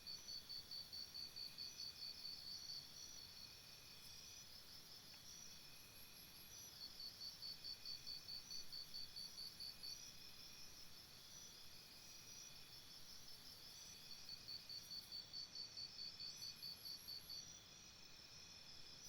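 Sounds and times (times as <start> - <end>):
faint insect chirping: 0.0 - 19.0.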